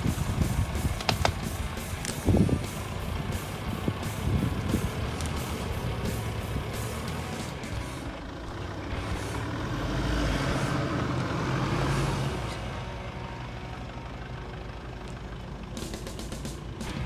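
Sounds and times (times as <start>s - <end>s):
car engine driving off road: 0.0s - 17.0s.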